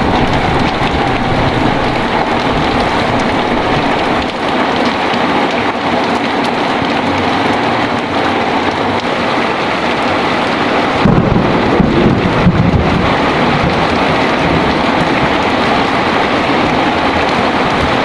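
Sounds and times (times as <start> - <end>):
heavy rain: 0.0 - 18.0
thunder rumbling: 0.0 - 18.0.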